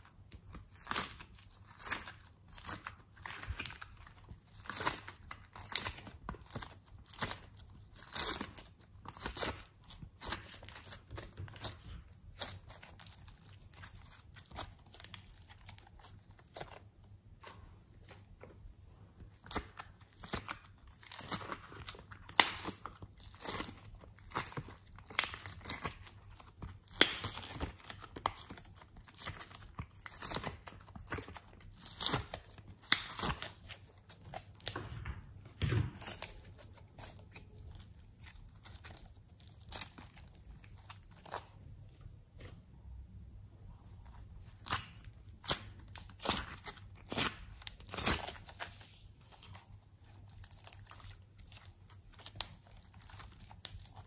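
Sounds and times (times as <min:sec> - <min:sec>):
hands squeezing sticky slime: 0:00.0 - 0:18.5, 0:19.2 - 0:34.8, 0:36.0 - 0:41.7, 0:44.2 - 0:54.0.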